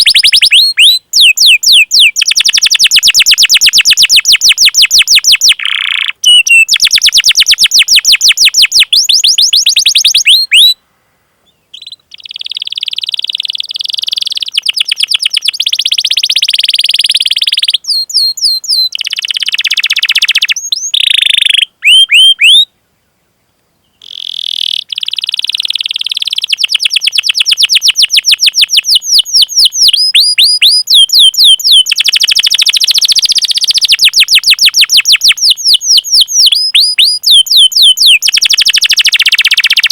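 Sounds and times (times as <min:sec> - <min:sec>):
canary singing: 0:00.0 - 0:10.8, 0:11.5 - 0:22.7, 0:23.8 - 0:39.9.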